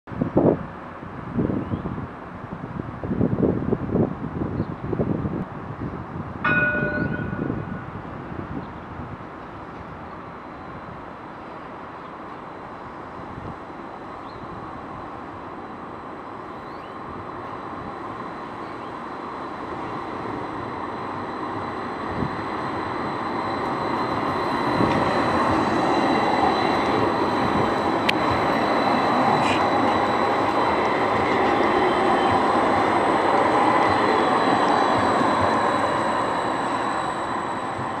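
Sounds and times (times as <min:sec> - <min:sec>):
tram rolling past: 0:00.2 - 0:38.0.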